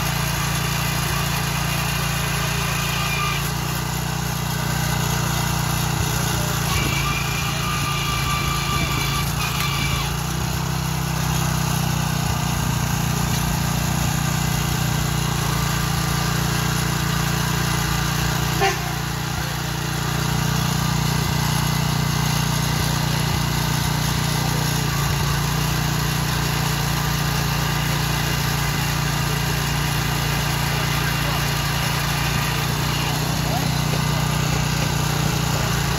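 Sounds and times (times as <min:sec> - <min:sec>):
small petrol engine running: 0:00.0 - 0:35.9.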